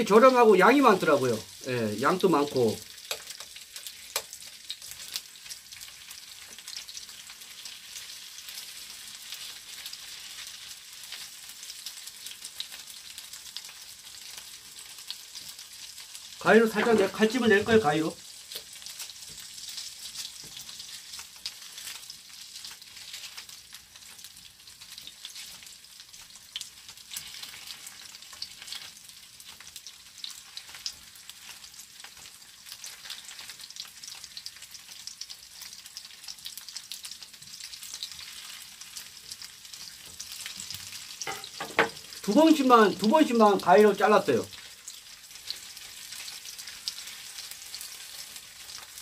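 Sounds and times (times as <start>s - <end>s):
sausages sizzling in a frying pan: 0.0s - 49.0s.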